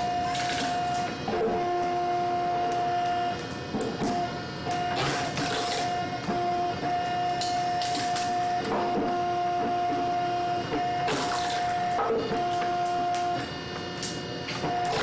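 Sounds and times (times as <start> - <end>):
machine whirring: 0.0 - 15.0.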